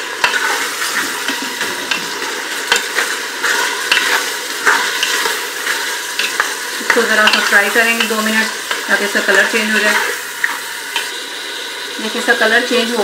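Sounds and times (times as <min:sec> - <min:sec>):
meat sizzling in hot oil: 0:00.0 - 0:13.0
spatula scraping pot: 0:00.2 - 0:11.2.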